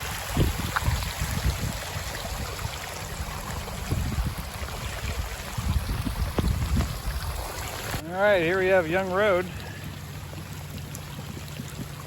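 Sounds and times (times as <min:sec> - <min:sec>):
heavy rain: 0:00.0 - 0:11.0
low rumbles: 0:00.0 - 0:12.0
rushing storm runoff: 0:00.0 - 0:12.0.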